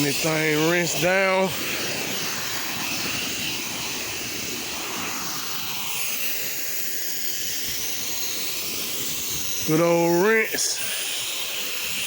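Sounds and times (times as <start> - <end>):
pressure washer spraying: 0.0 - 12.0.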